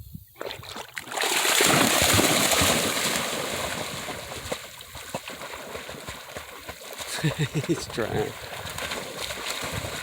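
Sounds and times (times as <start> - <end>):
dog splashing into water: 0.4 - 10.0.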